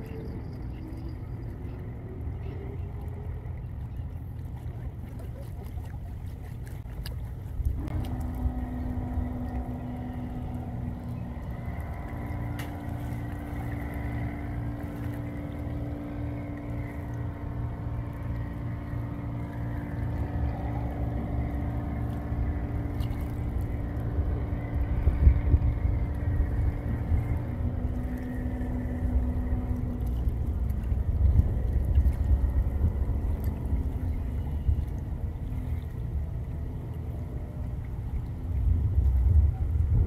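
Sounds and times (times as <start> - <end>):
boat engine running: 0.0 - 40.0
low rumble: 0.0 - 40.0.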